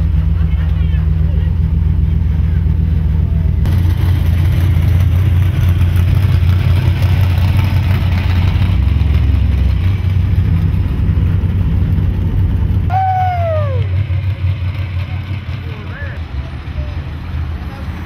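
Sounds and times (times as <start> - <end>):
car engine and exhaust rumble: 0.0 - 18.0.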